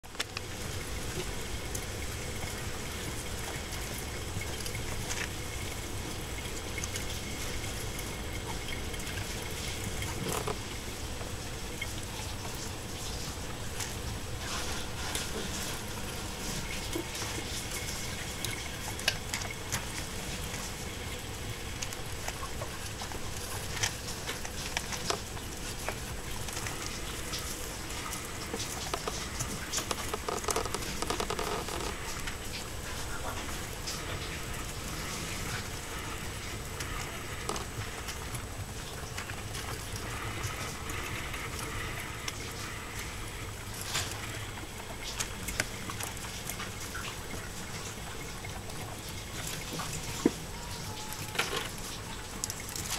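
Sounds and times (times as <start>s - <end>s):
mice scurrying and scratching: 0.0s - 52.9s
steady hiss: 0.1s - 52.9s.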